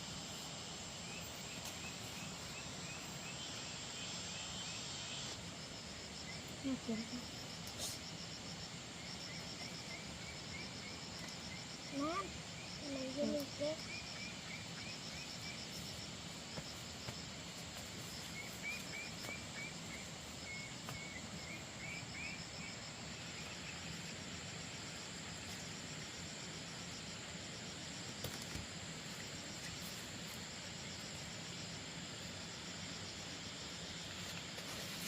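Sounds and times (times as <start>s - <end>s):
background hiss: 0.0s - 35.0s
high pulsing insect trill: 0.0s - 35.0s
insect chirps: 0.0s - 35.0s.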